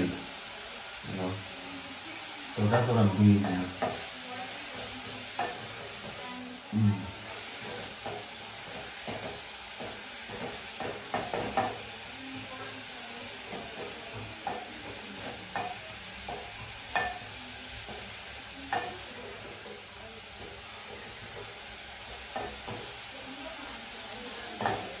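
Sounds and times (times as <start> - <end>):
spoon scraping a pan: 0.0 - 25.0
vegetables sizzling in a pan: 0.0 - 25.0.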